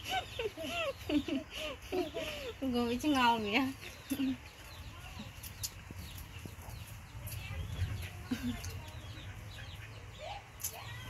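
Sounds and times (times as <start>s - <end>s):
chickens clucking: 0.0s - 10.8s.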